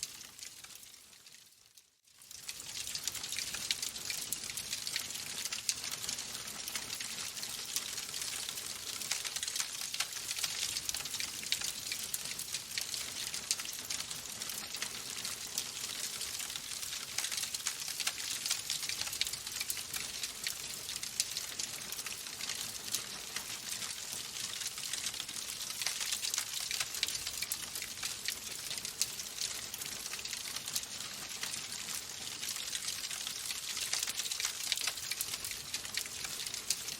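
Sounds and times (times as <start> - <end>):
fire crackling in fireplace: 0.0 - 36.9.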